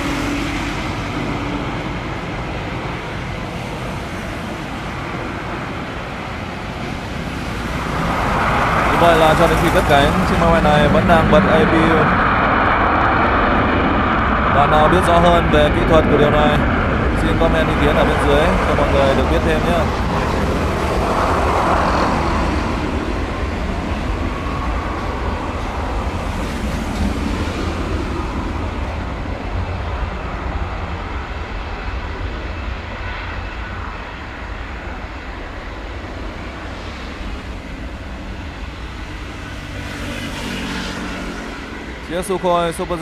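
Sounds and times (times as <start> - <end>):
jet engines at takeoff thrust: 0.0 - 43.0.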